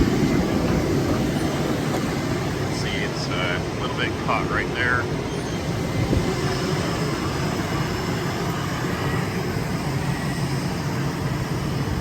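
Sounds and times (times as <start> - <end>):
wind noise with low rumble: 0.0 - 12.0.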